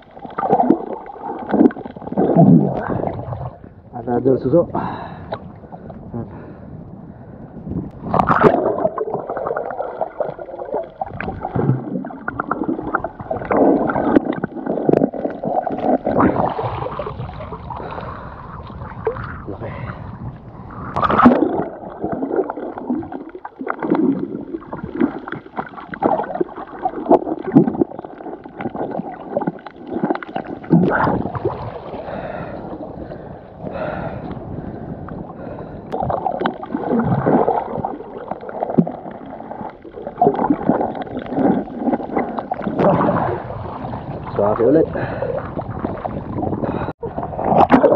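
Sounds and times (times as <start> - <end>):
muffled underwater gurgling: 0.0 - 47.9.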